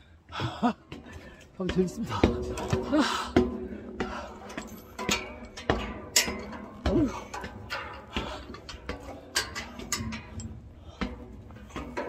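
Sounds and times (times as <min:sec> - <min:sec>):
footsteps on stairs: 0:00.2 - 0:12.0.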